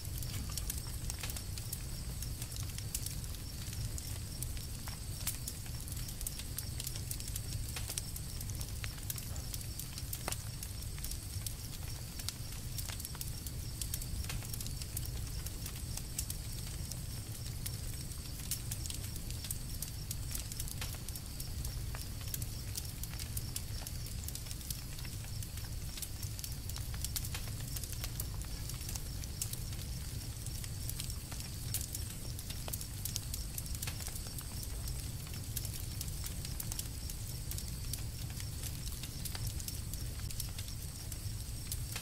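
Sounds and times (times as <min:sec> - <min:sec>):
campfire crackling: 0:00.0 - 0:42.0.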